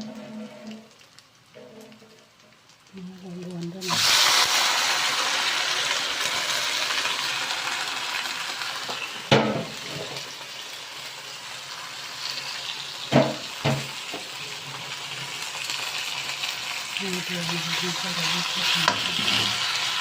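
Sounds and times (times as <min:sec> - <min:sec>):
paste sizzling in hot oil: 0:00.0 - 0:20.0.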